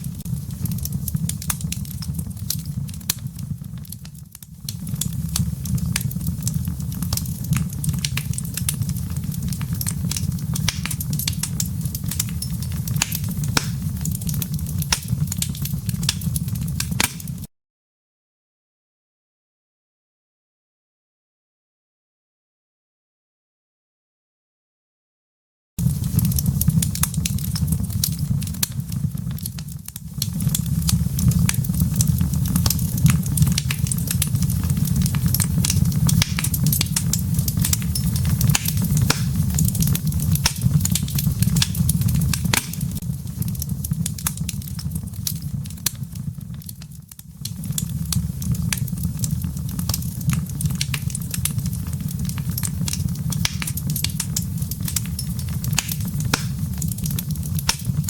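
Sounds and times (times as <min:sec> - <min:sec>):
wood fire crackling and popping: 0:00.0 - 0:17.5, 0:25.8 - 0:58.0.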